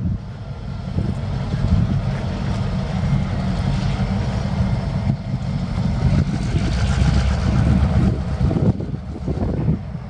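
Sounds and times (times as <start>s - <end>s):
diesel locomotives rumbling: 0.0s - 10.0s.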